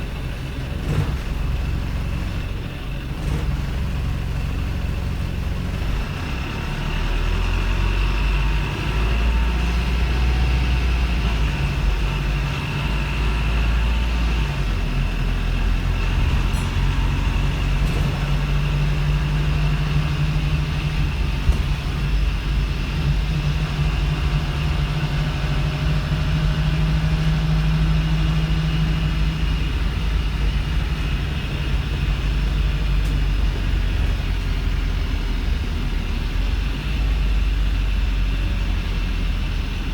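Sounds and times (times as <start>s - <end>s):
bus diesel engine drone: 0.0s - 39.9s
high engine whine: 0.0s - 39.9s.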